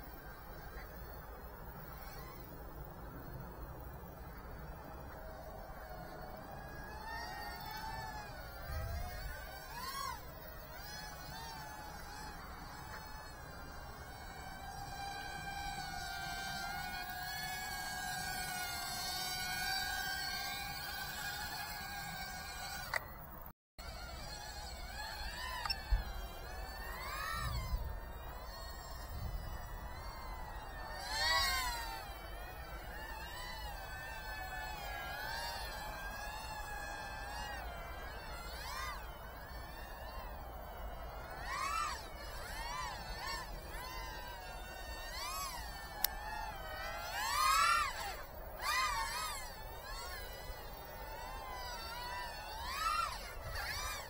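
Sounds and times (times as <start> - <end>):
quadcopter buzzing whine: 0.0 - 54.0.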